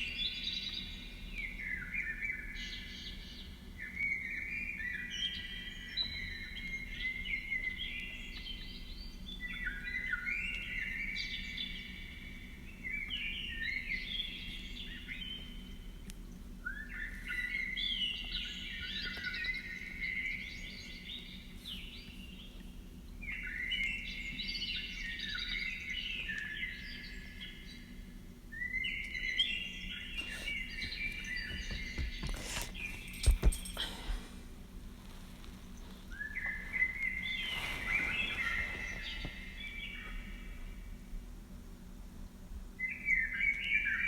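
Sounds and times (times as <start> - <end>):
songbird singing: 0.0 - 34.4, 35.0 - 41.2, 42.7 - 44.0.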